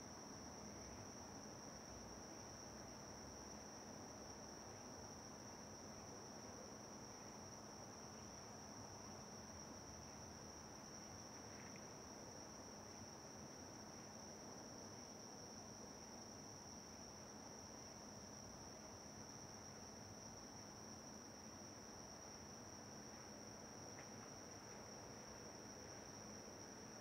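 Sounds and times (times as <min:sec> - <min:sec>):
low background hiss: 0:00.0 - 0:27.0
crickets chirring: 0:00.2 - 0:27.0.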